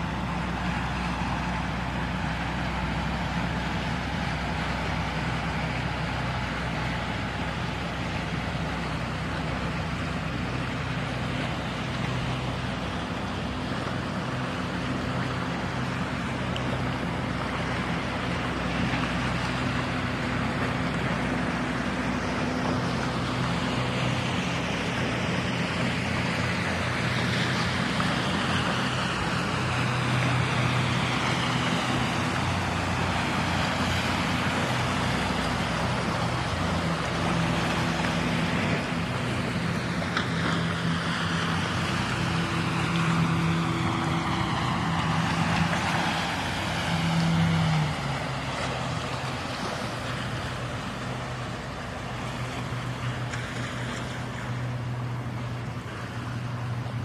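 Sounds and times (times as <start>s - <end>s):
boat engine humming: 0.0s - 57.0s
water washing: 0.0s - 57.0s.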